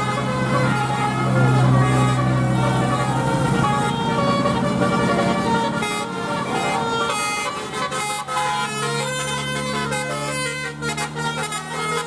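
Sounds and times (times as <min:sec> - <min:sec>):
musical air horn playing a tune: 0:00.0 - 0:12.0.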